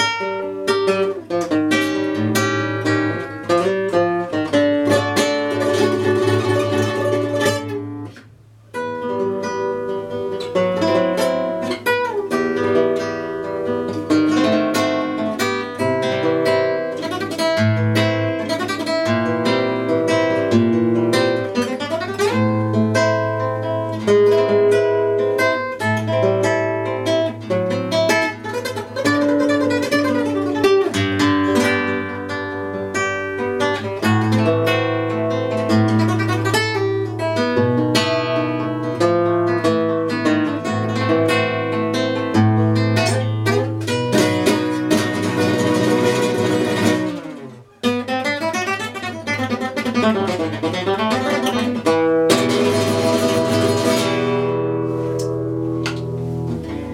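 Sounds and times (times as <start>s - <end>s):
plucked string melody: 0.0s - 56.9s.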